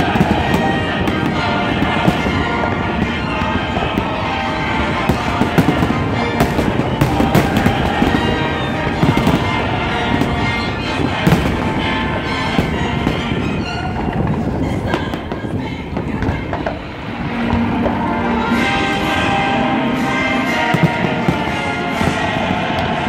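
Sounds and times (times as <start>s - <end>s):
fireworks bursting: 0.0s - 23.0s
music playing: 0.0s - 23.0s.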